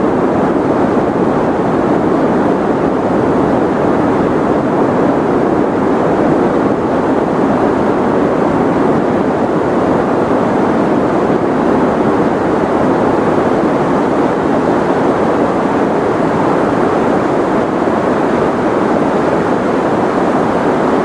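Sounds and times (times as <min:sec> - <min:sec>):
white noise hiss: 0:00.0 - 0:21.0.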